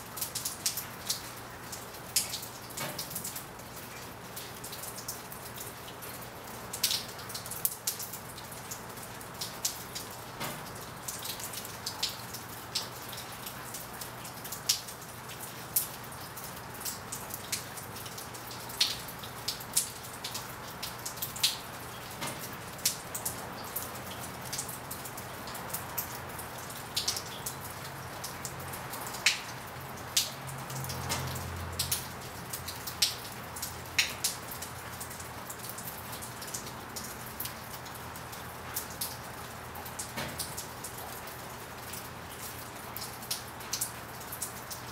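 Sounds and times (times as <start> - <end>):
raindrops tapping: 0.1 - 44.9.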